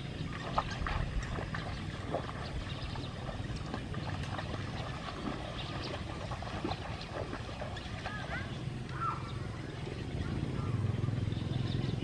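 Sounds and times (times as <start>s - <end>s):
water sloshing and splashing: 0.0s - 10.3s.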